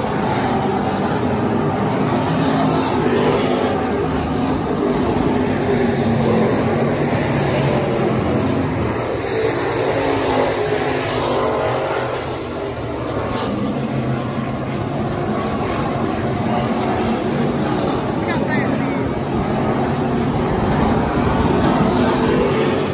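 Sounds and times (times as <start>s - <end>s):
racing car engines at speed: 0.0s - 22.9s.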